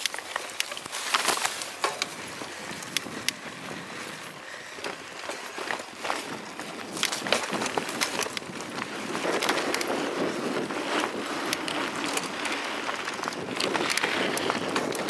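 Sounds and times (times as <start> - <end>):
bike clicks and rattles: 0.0 - 15.0
tyre and wind rush: 1.0 - 15.0.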